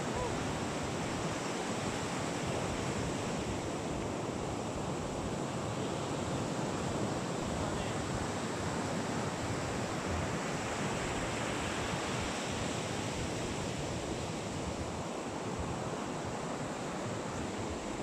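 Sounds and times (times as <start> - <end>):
ocean surf on a beach: 0.0 - 18.0.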